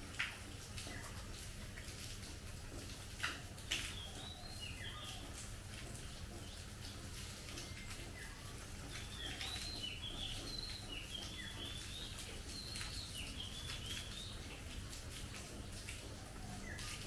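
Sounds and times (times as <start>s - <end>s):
rain falling on foliage: 0.0s - 17.0s.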